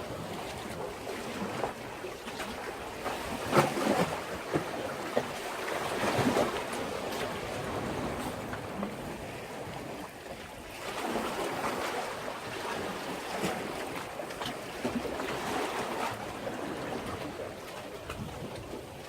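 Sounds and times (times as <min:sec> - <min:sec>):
sea waves washing against breakwater: 0:00.0 - 0:19.0.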